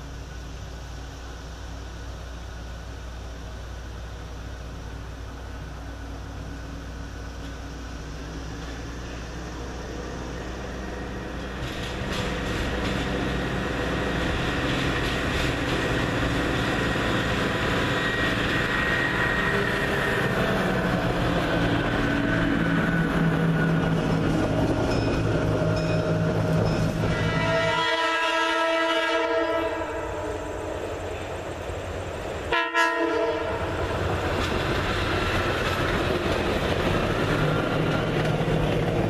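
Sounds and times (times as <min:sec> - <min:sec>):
steel wheels rumbling on rails: 0:00.0 - 0:39.0.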